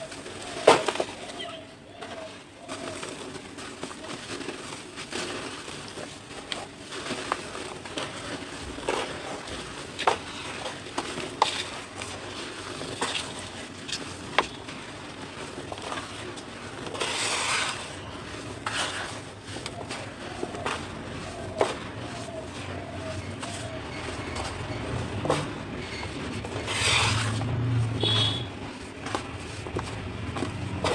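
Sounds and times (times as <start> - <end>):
cement chunks crumbling and cracking: 0.1 - 1.4, 2.8 - 27.6, 28.5 - 30.9
crumbs and powder falling: 2.0 - 30.9.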